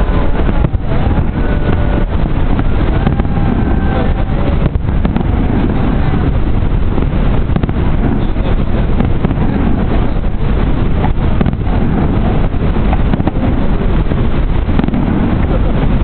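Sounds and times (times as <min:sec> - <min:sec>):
low rumble and rush: 0:00.0 - 0:16.0
wind buffeting microphone: 0:00.0 - 0:16.0.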